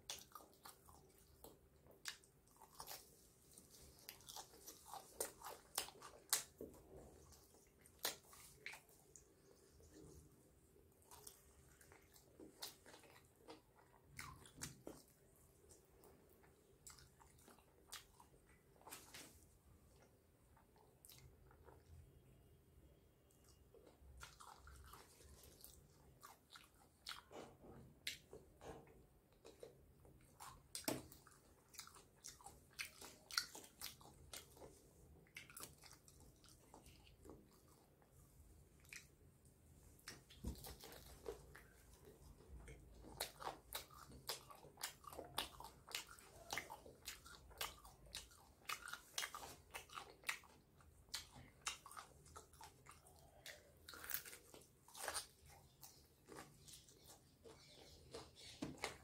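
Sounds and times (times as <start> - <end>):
person chewing crunchy chicken: 0.0 - 22.3, 23.4 - 28.4, 29.3 - 39.4, 40.0 - 59.0.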